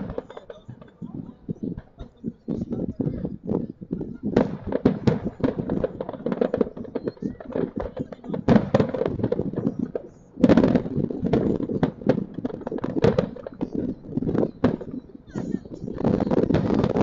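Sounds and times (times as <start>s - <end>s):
loud firework burst: 0.0s - 3.2s, 3.9s - 17.0s
fireworks crackling and popping: 0.0s - 17.0s.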